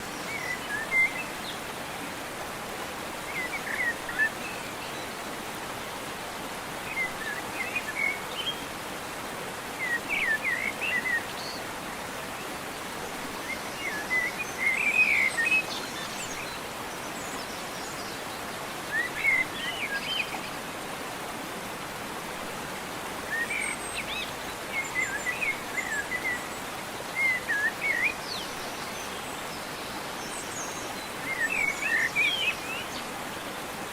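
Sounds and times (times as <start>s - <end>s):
outdoor background hiss: 0.0s - 33.9s.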